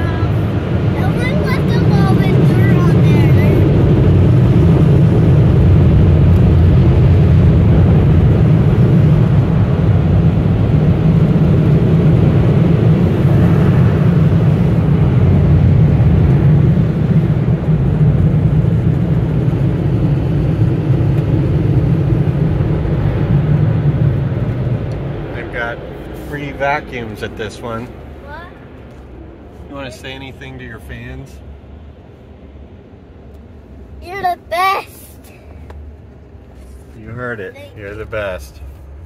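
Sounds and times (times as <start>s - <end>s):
car wash dryer blowers rumbling: 0.0s - 35.6s.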